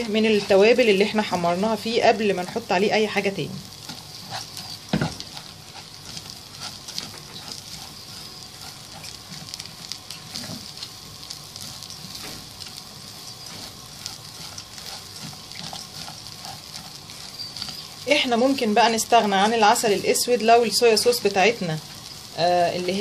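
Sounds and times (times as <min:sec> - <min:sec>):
rice sizzling in oil: 0:00.0 - 0:23.0
spatula stirring grains: 0:00.0 - 0:23.0.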